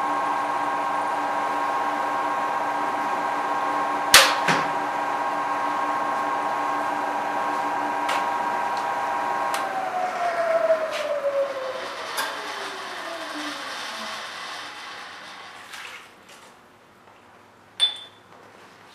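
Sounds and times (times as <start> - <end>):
milling machine motor whine: 0.0 - 15.7.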